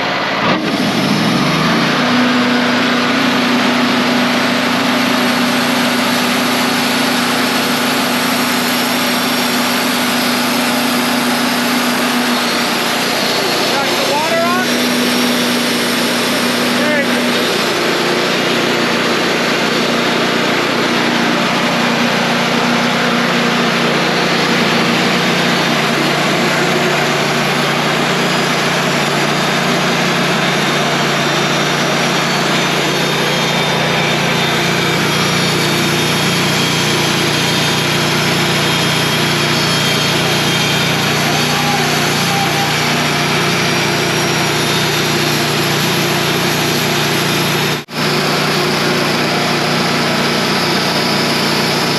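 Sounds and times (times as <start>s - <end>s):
band sawmill cutting log: 0.0s - 51.9s.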